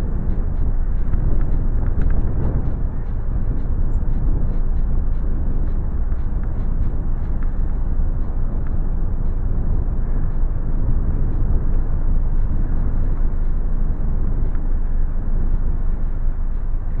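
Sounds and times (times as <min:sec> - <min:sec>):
light ticks and rattles: 0:00.0 - 0:17.0
wind rumble on microphone: 0:00.0 - 0:17.0.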